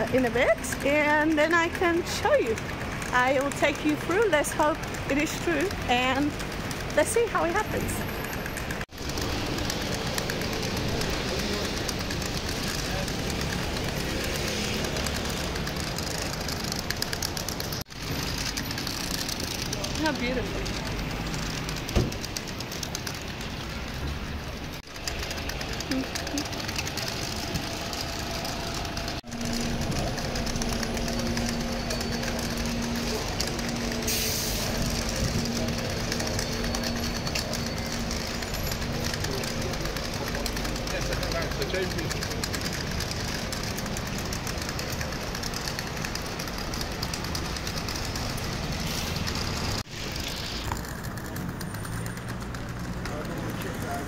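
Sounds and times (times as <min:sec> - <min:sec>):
bus and car engines running: 0:00.0 - 0:54.0
road traffic noise: 0:00.0 - 0:54.0
steady low engine hum: 0:00.0 - 0:54.0.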